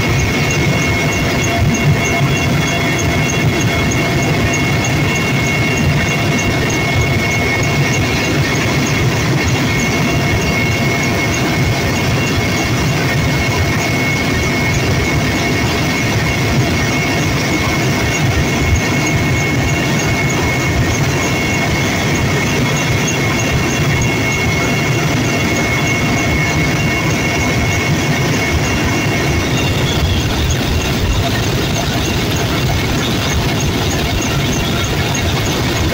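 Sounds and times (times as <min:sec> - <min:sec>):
helicopter engine and rotor drone: 0:00.0 - 0:35.9
high whine: 0:00.0 - 0:35.9.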